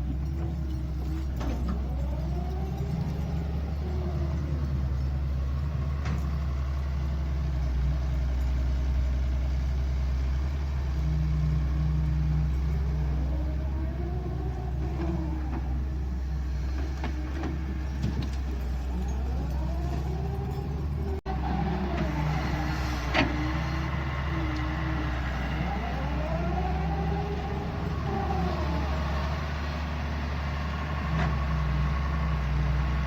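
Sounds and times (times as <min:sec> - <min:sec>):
excavator diesel engine running: 0:00.0 - 0:33.0
excavator whine: 0:00.0 - 0:33.0.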